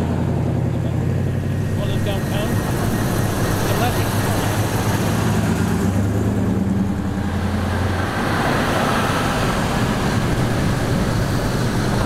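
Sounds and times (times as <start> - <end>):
car engine drone: 0.0 - 12.0
cars driving past slowly: 0.0 - 12.0.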